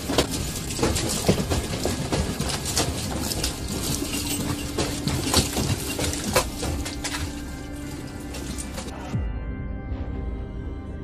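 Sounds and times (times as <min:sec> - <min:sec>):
household objects rattling and clinking: 0:00.0 - 0:09.0.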